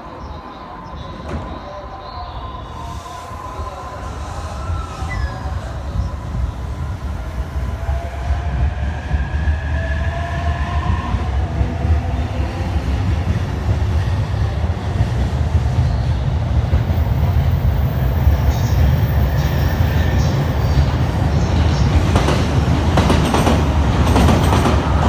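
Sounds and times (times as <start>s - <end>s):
wheels rumbling on rail: 2.6s - 25.0s.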